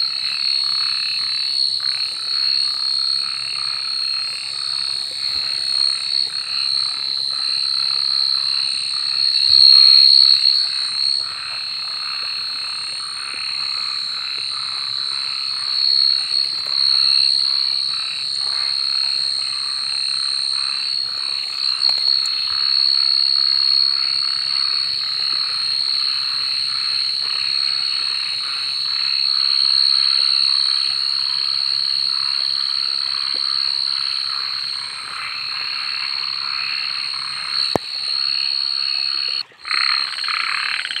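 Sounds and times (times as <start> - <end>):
frogs calling: 0.0 - 41.0.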